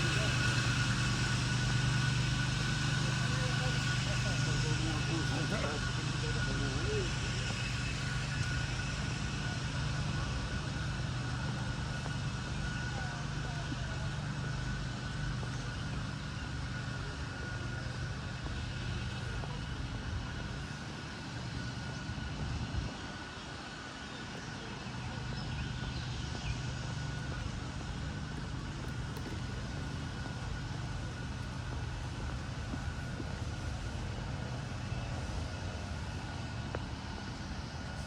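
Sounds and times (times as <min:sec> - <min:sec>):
distant engines droning: 0:00.0 - 0:38.0.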